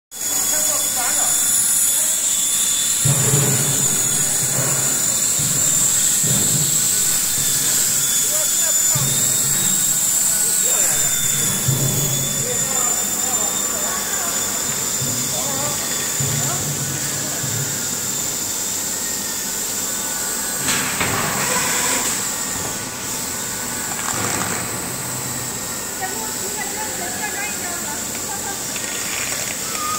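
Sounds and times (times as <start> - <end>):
machine hissing and whining: 0.2 - 29.9.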